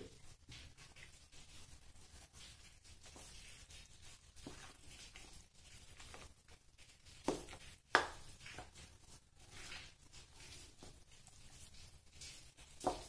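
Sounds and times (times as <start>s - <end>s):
utensil stirring batter in bowl: 0.0s - 13.0s.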